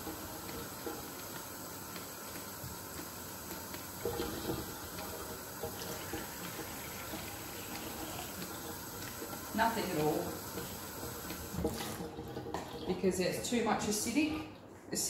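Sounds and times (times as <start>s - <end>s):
water pouring into plastic cup: 0.1s - 13.0s.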